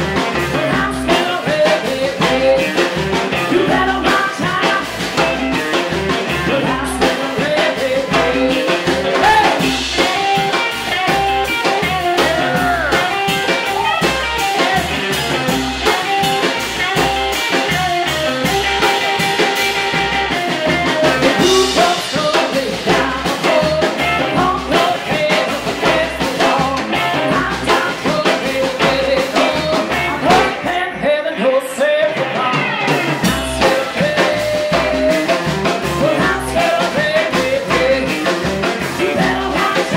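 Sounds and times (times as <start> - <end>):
drum kit: 0.0 - 31.0, 31.7 - 39.9
electric guitar: 0.0 - 39.9
upright bass: 0.0 - 39.9
woman singing: 0.3 - 5.6, 6.2 - 18.5, 21.3 - 39.9.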